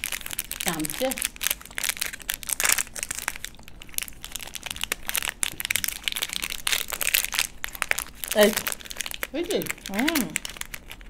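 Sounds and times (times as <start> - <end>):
wrappers crinkling: 0.0 - 11.0.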